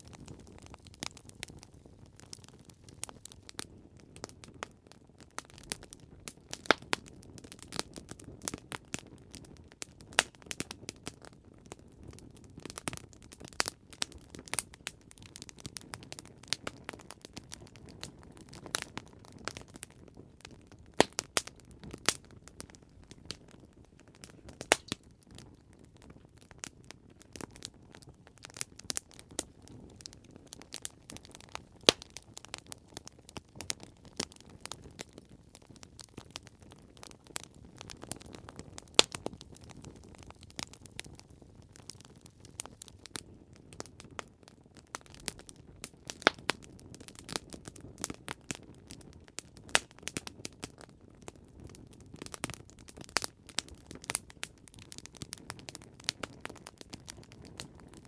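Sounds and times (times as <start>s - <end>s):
burning wood popping and snapping: 0.0s - 58.0s.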